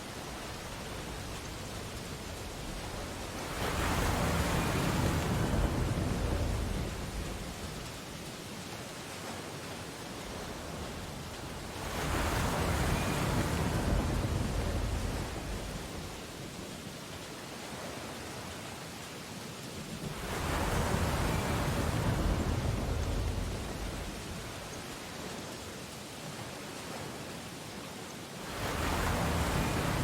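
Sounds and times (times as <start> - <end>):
ocean waves breaking: 0.0 - 16.7, 17.6 - 25.6, 28.4 - 30.0.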